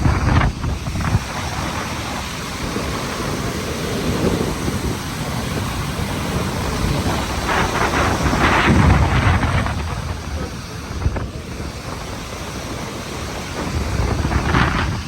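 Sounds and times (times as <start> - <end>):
waterfall roaring: 0.0 - 15.0
wind buffeting microphone: 0.0 - 15.0.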